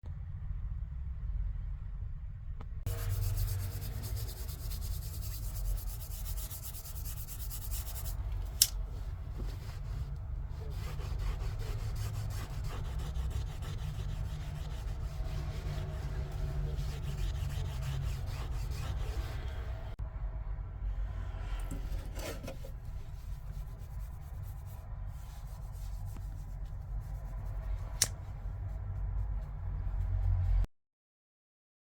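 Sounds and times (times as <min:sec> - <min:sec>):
low machine hum: 0:00.0 - 0:30.7
scrubbing against a surface: 0:02.9 - 0:19.9, 0:21.7 - 0:30.6.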